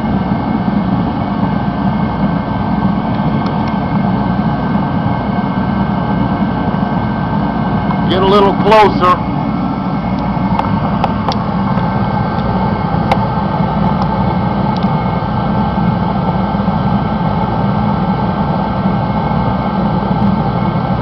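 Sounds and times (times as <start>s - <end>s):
heater fan and burner running: 0.0s - 21.0s.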